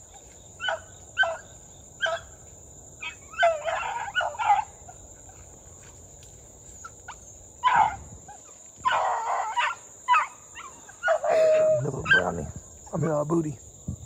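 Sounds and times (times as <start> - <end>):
distant hounds baying: 0.0 - 6.0, 6.6 - 12.9.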